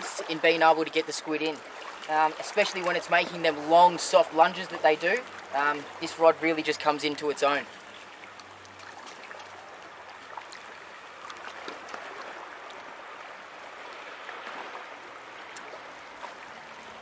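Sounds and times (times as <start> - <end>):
water lapping against rocks: 0.0 - 17.0.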